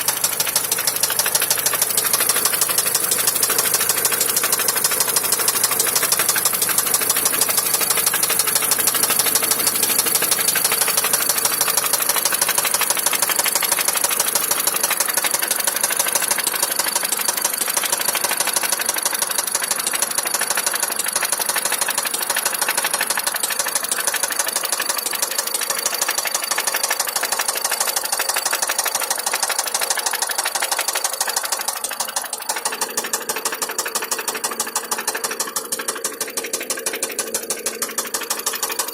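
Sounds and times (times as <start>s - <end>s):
engine running with rapid knocking: 0.0s - 38.9s.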